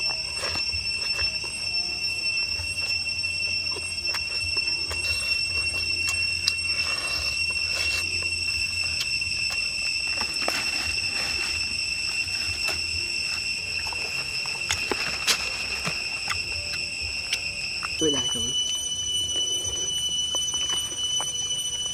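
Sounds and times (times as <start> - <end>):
insects droning: 0.0 - 21.9
sharp clicks and crackles: 0.0 - 21.9.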